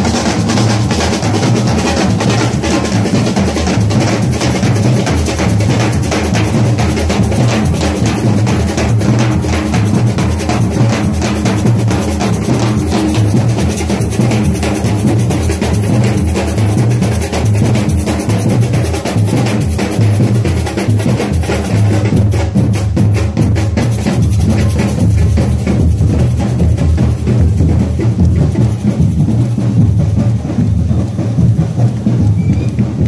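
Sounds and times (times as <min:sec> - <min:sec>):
marching bass drums beating: 0:00.0 - 0:33.0.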